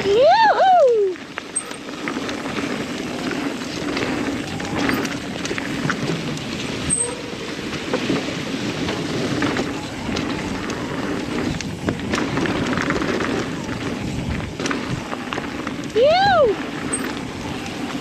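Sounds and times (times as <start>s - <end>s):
bike rattles and clicks: 0.0s - 18.0s
bike tyres rolling on dirt: 0.0s - 18.0s
wind on microphone: 0.0s - 18.0s.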